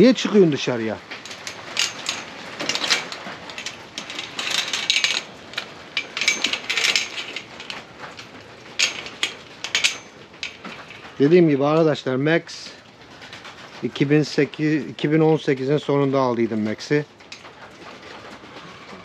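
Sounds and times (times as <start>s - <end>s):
clicking and rattling: 0.3s - 11.9s, 12.7s - 19.0s.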